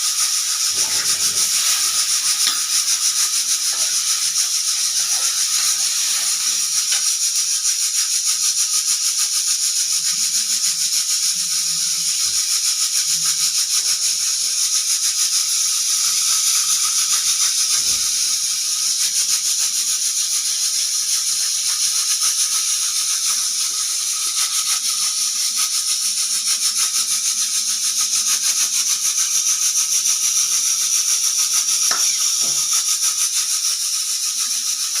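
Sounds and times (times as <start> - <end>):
pressure cooker whistle hissing: 0.0 - 35.0
valve rattling on vent: 0.0 - 35.0.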